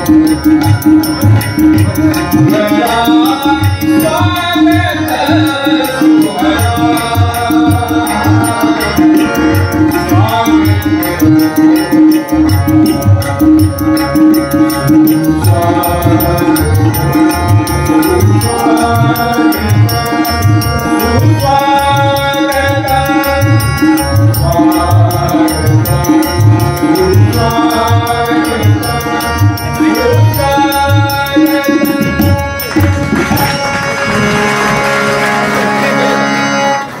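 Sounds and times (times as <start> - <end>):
small hand cymbals: 0.0 - 33.9
hand drums: 0.0 - 36.4
harmonium melody: 0.0 - 37.0.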